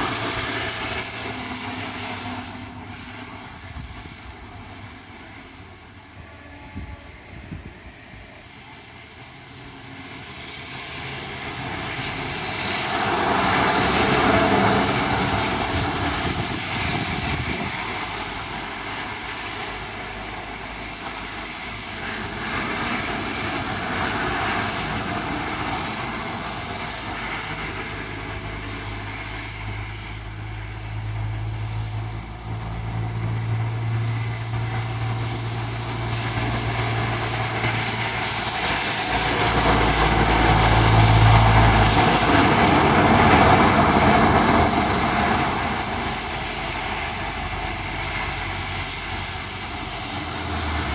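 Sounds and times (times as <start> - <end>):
strong wind buffeting microphone: 0.0 - 9.0, 11.2 - 50.9.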